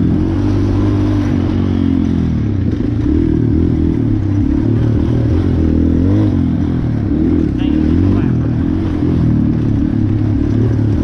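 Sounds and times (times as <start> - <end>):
racing engine revving: 0.0 - 11.0.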